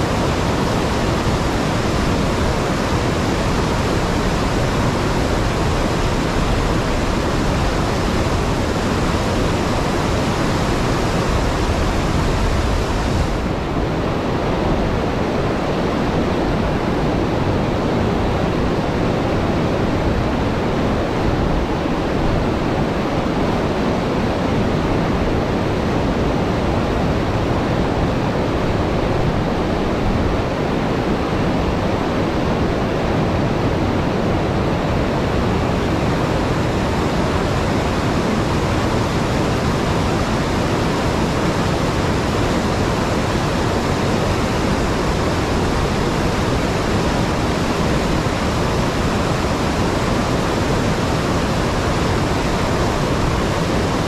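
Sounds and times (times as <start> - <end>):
river roaring over dam: 0.0 - 54.0.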